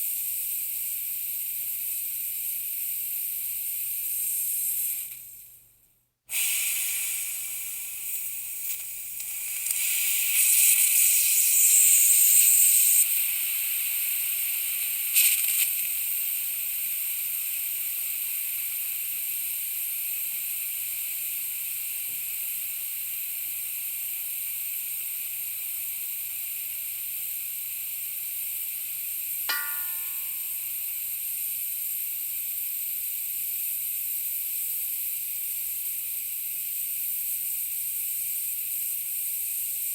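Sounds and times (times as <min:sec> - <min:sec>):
air leaking hiss: 0:00.0 - 0:05.4, 0:06.3 - 0:39.9.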